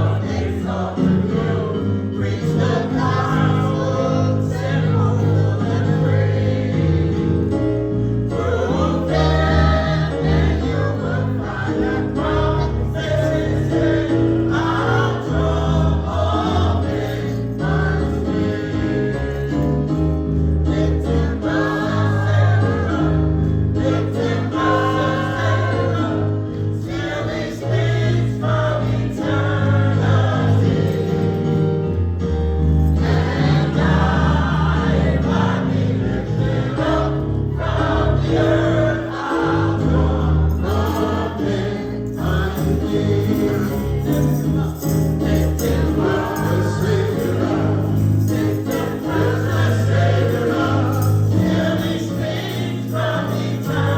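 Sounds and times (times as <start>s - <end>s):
gospel choir singing: 0.0s - 53.9s
instrumental accompaniment: 0.0s - 53.9s.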